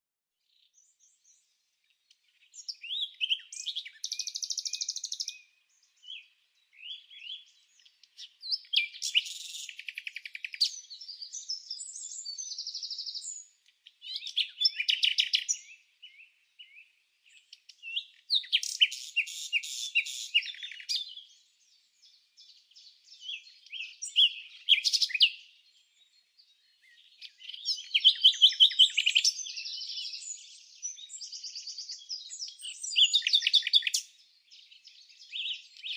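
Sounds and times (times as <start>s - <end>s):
songbird singing: 0.4s - 35.9s.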